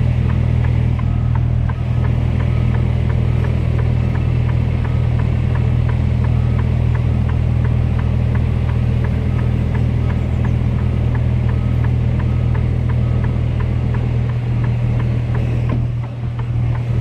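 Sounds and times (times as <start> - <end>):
diesel truck engine running: 0.0 - 17.0
light regular ticking: 0.0 - 17.0.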